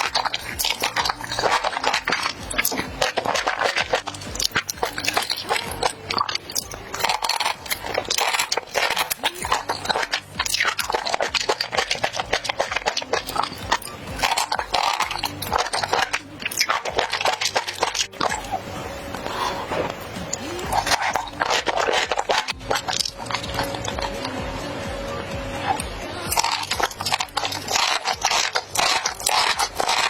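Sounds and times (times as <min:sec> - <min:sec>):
wet chewing and crunching: 0:00.0 - 0:24.4, 0:25.6 - 0:30.0.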